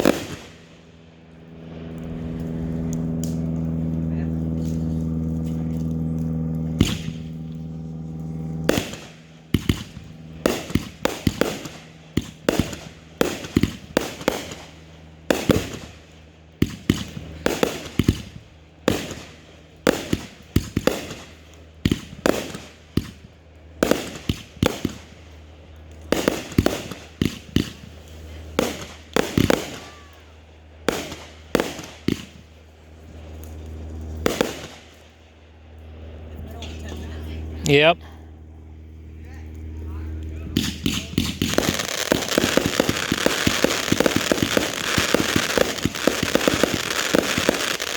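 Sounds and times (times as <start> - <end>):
fireworks reports with crackling: 0.0 - 0.8, 1.6 - 47.9
steady low hum: 0.0 - 47.9.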